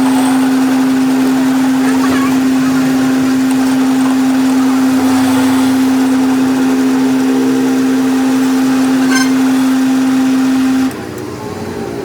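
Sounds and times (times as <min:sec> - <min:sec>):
electric workshop machine humming: 0:00.0 - 0:12.0.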